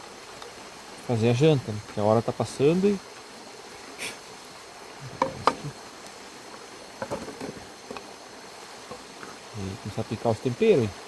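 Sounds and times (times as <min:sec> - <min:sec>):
faint insects: 0:00.0 - 0:11.0.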